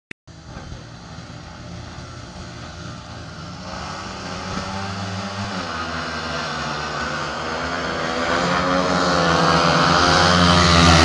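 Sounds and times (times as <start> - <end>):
motorcycle engines revving: 0.3 - 11.0.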